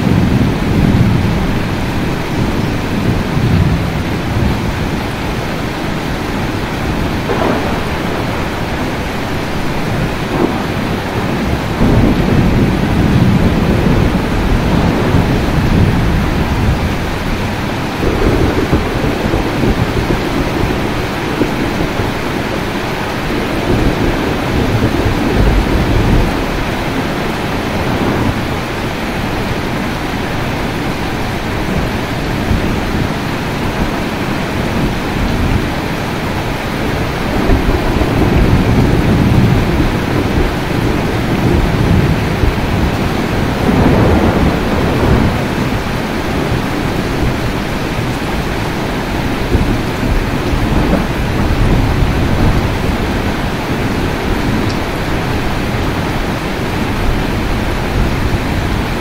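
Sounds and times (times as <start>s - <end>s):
heavy rain: 0.0s - 59.0s
thunder rumbling: 0.0s - 59.0s.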